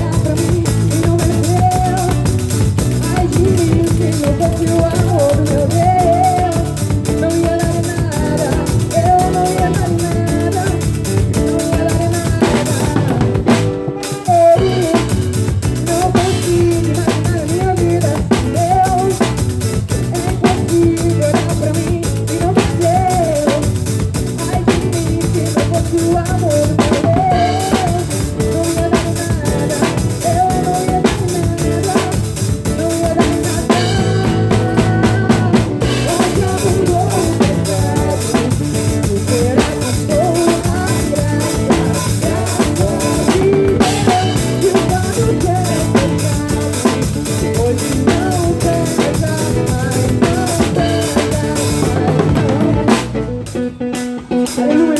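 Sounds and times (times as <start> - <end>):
drum kit groove: 0.0 - 54.9
live band playing: 0.0 - 54.9.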